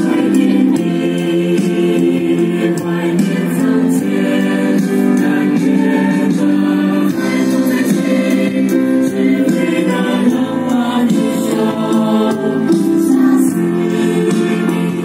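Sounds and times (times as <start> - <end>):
choir singing sustained chords: 0.0 - 15.0.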